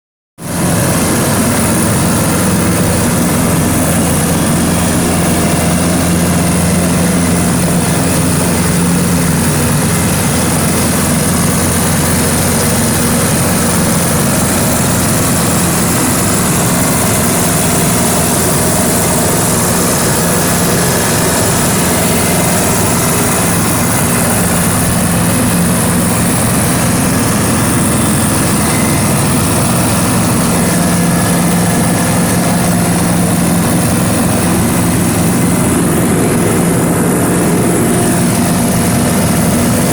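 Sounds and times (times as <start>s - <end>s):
blower machine humming: 0.4s - 39.9s.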